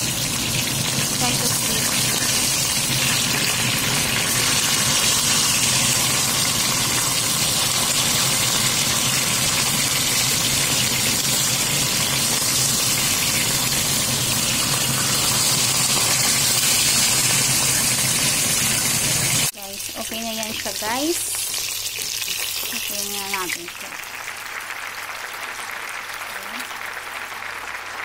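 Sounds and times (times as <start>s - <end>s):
fish sizzling in oil: 0.0s - 24.4s.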